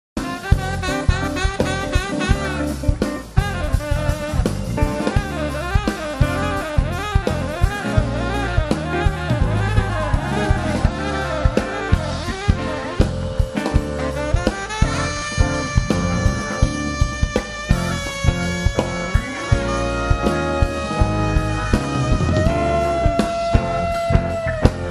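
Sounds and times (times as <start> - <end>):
jazz band playing: 0.2 - 24.9
saxophone long held notes: 0.2 - 24.9.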